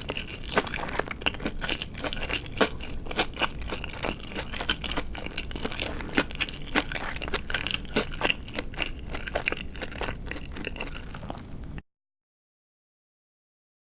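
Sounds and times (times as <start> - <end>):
mouth chewing crispy food: 0.0 - 11.8.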